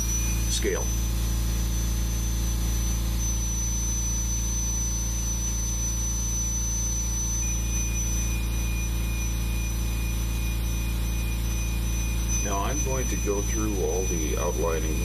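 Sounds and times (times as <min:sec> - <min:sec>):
lower whine: 0:00.0 - 0:15.0
power carver whine: 0:00.0 - 0:15.0.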